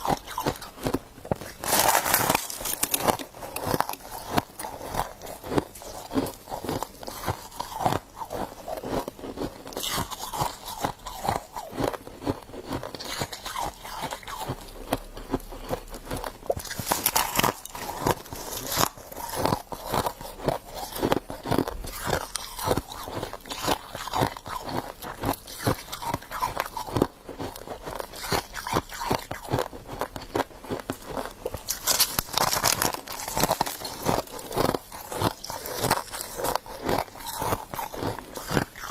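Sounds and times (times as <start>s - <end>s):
person crunching frost: 0.0s - 38.9s.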